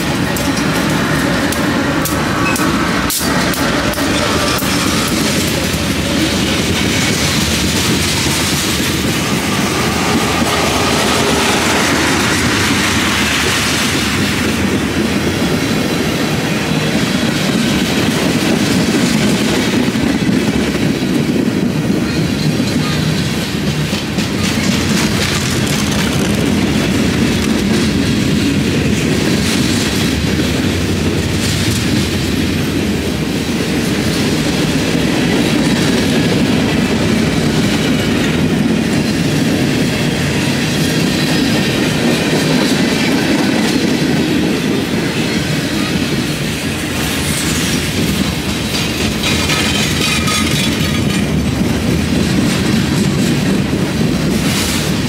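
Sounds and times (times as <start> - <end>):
steel wheels rolling on rails: 0.0 - 55.0.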